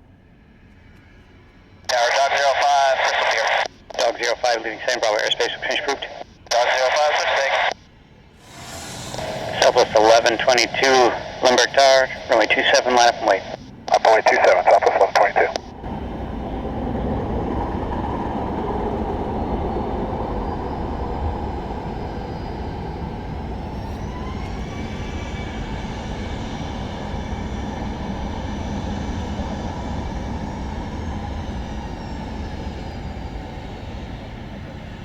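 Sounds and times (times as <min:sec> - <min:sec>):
multi-tone engine whine: 0:00.6 - 0:35.0
jet engines rushing: 0:01.9 - 0:35.0.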